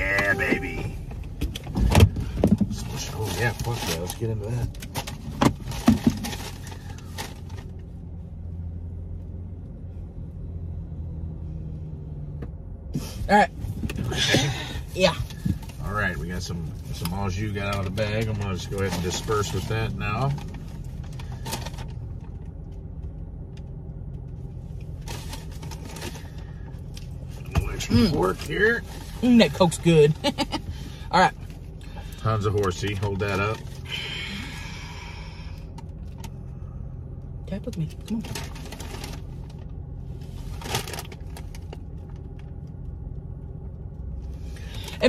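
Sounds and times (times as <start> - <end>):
low hum inside car: 0.0 - 45.0.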